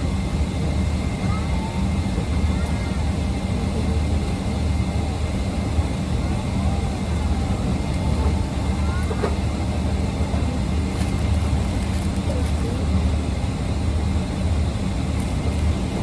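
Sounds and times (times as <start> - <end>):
vehicle rumble inside cabin: 0.4 - 16.0
faint voices: 0.6 - 13.6.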